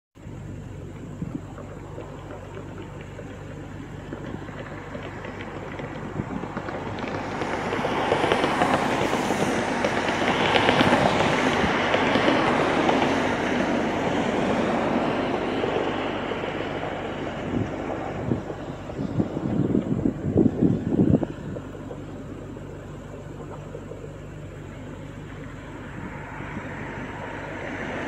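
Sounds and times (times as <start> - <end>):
thunderstorm crackling rush: 0.3 - 28.0.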